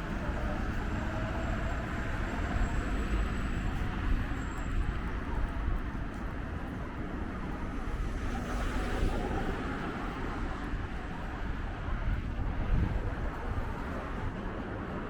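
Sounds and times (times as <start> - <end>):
distant traffic rumble: 0.0 - 15.0
wind on microphone: 0.0 - 15.0.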